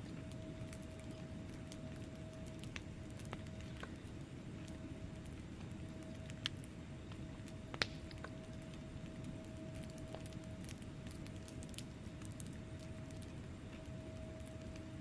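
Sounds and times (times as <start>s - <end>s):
burning logs popping: 0.0s - 15.0s
wood fire crackling: 0.0s - 15.0s.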